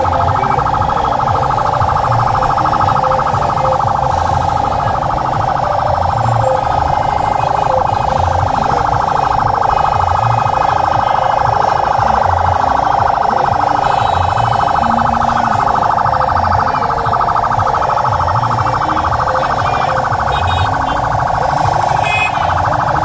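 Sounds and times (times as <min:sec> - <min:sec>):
vehicle siren warbling: 0:00.0 - 0:23.0.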